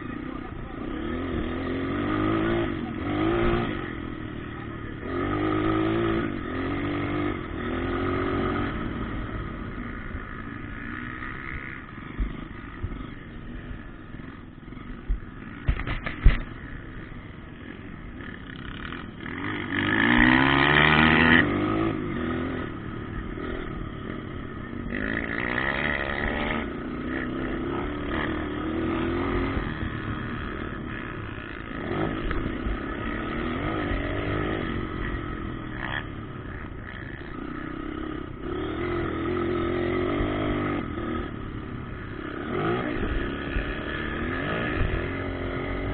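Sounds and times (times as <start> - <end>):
dirt bikes revving: 0.0 - 45.9.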